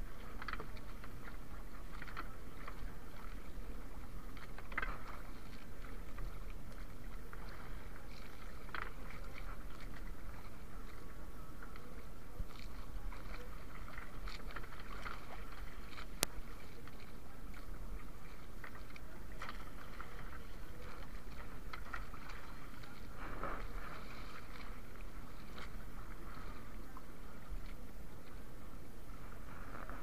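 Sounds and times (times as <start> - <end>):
water lapping around canoe: 0.0 - 30.0.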